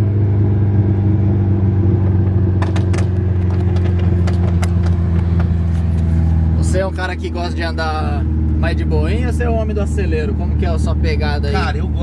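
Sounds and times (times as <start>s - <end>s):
car engine droning in cabin: 0.0s - 12.0s.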